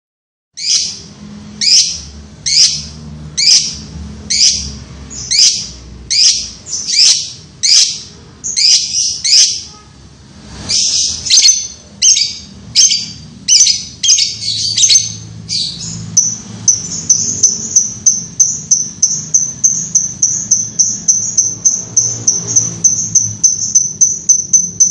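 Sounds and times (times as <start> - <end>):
lovebird chattering: 0.6 - 9.7, 10.7 - 24.9.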